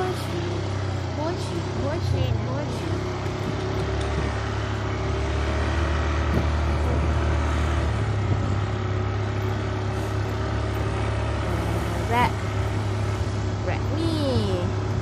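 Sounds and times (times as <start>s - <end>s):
motorcycle engine drone: 0.0s - 15.0s
wind and road noise: 0.0s - 15.0s.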